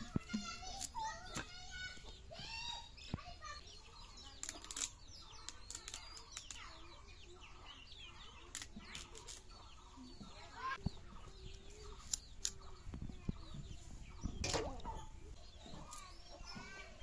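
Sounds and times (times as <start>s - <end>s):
chickens clucking and peeping: 0.0s - 17.0s.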